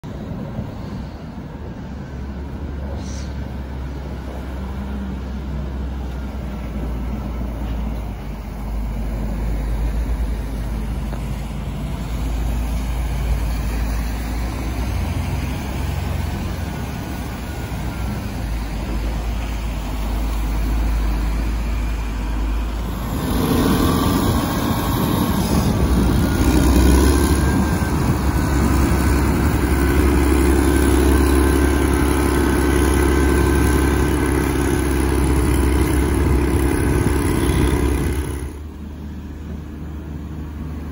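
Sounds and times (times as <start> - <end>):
grader diesel engine drone: 0.0 - 40.9
noisy wash of snow clearing: 0.0 - 40.9
passing traffic: 0.0 - 40.9.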